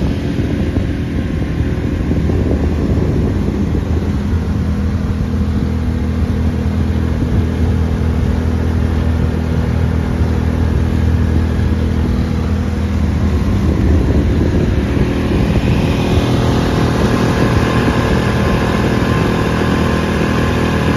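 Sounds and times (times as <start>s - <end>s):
outboard motor running: 0.0s - 20.9s.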